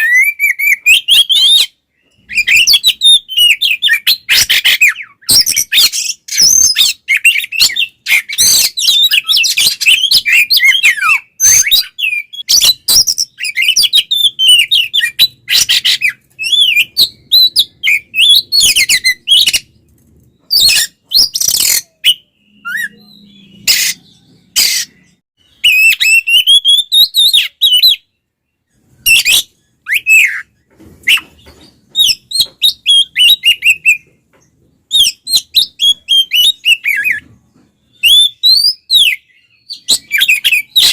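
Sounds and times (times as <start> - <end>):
bird singing loudly: 0.0 - 19.7, 20.4 - 31.4, 37.9 - 40.9.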